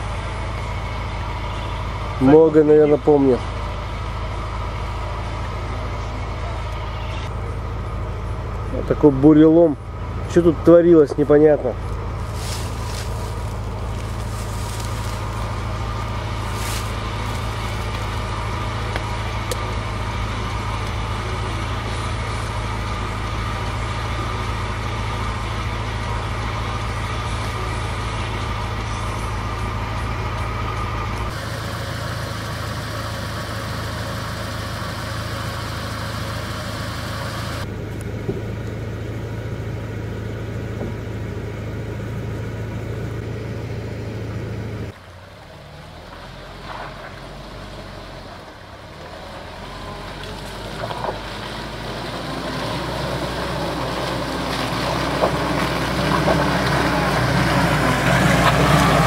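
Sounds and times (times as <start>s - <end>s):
car engine running: 0.0s - 59.0s
tyres on muddy track: 0.0s - 59.0s.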